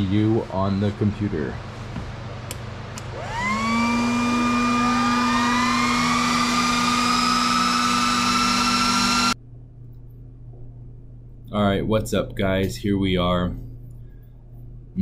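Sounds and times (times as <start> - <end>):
cooling fans whining: 0.0 - 15.0
steady hum: 0.0 - 15.0.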